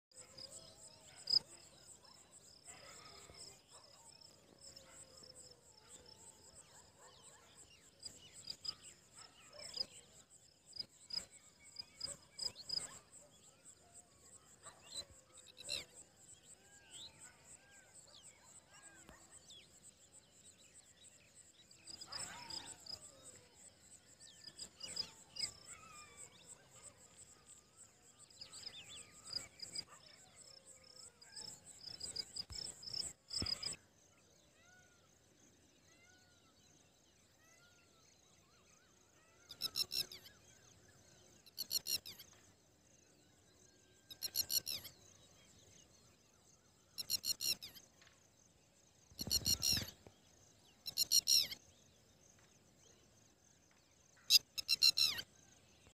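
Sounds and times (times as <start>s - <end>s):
faint chirps: 0.1s - 13.8s, 14.4s - 33.9s, 38.3s - 48.2s, 49.0s - 55.9s.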